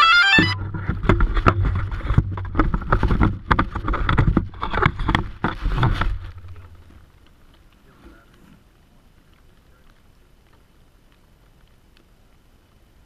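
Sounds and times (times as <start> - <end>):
clicks and rustles: 0.0 - 12.1.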